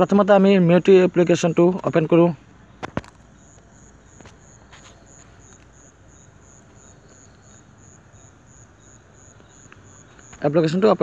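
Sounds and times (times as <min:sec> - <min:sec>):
low background hiss: 0:00.0 - 0:11.0
faint high-pitched chirping: 0:00.7 - 0:11.0.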